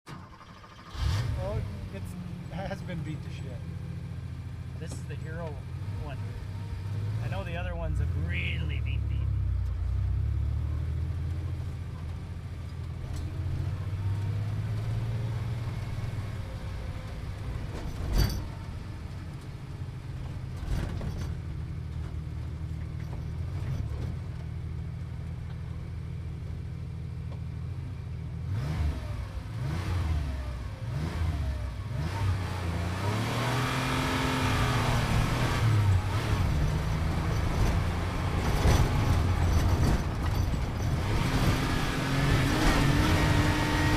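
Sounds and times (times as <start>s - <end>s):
sports car engine idling and revving: 0.0s - 43.9s.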